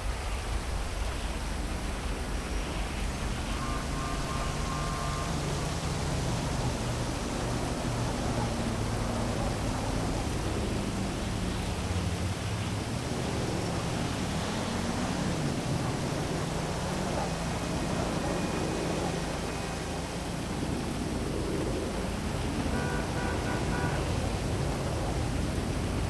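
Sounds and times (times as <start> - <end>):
distant traffic hum: 0.0 - 26.0
heavy rain falling: 0.0 - 26.0.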